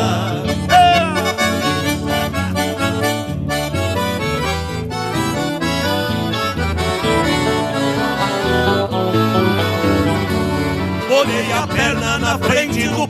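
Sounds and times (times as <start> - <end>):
accordion playing fast melody: 0.0 - 13.0
rhythmic bass accompaniment: 0.0 - 13.0.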